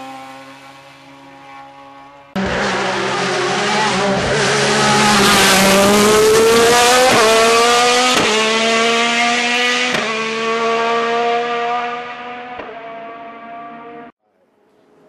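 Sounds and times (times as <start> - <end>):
race car engine at full throttle: 0.0 - 14.2.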